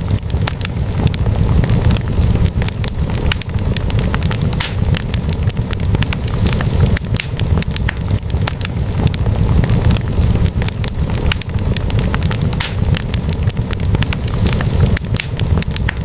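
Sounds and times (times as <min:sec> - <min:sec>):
logs crackling and popping: 0:00.0 - 0:16.0
low fire rumble: 0:00.0 - 0:16.0.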